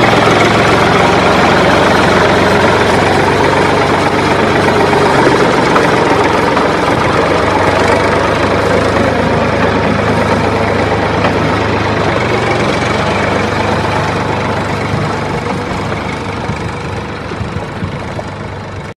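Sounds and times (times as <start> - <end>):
tractor engine humming: 0.0 - 19.0.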